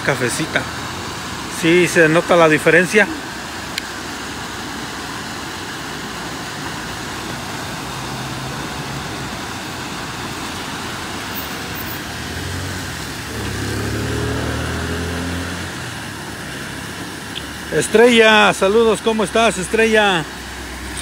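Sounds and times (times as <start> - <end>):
flooded creek rushing: 0.0 - 21.0
vehicle engine hum: 3.1 - 21.0.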